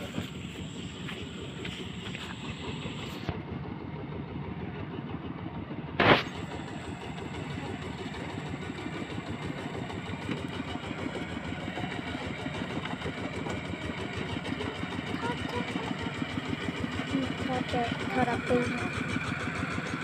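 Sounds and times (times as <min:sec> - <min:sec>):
tractor engine chugging: 0:00.0 - 0:20.0.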